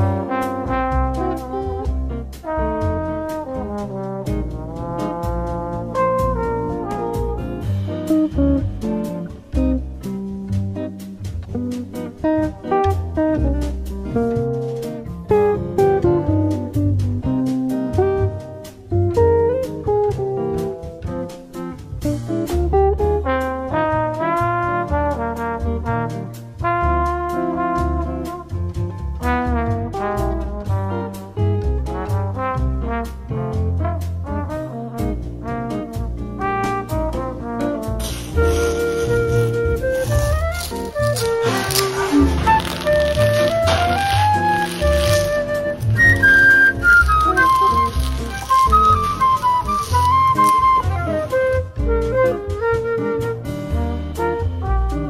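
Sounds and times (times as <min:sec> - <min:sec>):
steady drum beat: 0:00.0 - 0:31.3, 0:31.9 - 0:52.8
bass line: 0:00.0 - 0:55.0
upbeat jazz music with brass: 0:00.0 - 0:55.0.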